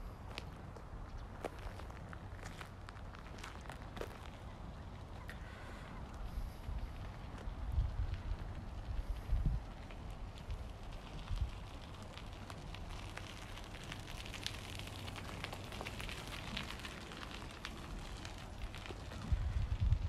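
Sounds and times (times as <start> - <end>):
wind rumble on microphone: 0.0 - 20.0
faint crackling ticks: 0.3 - 20.0.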